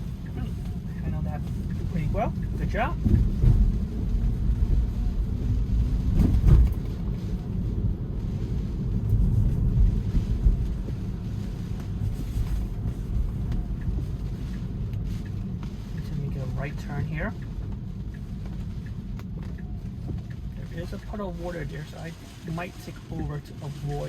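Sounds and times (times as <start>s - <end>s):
car tyres on wet road: 0.0s - 24.0s
wind: 0.0s - 24.0s.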